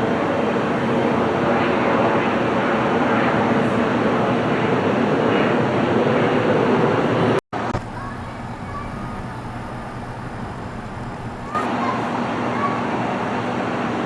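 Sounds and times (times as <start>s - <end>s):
jet engines loud and steady: 0.0s - 14.0s
steady background noise: 0.0s - 14.0s.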